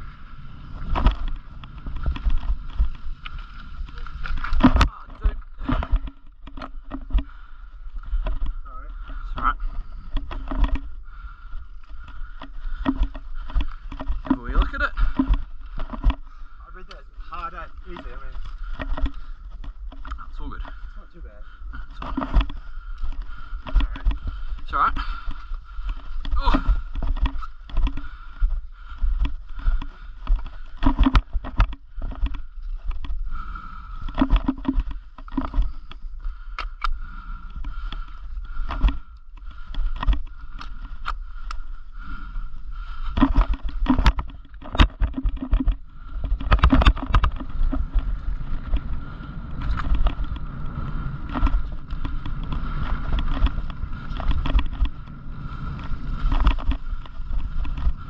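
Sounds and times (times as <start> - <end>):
mountain bike rattling over trail: 0.0 - 58.0
wind rumble on microphone: 0.0 - 58.0.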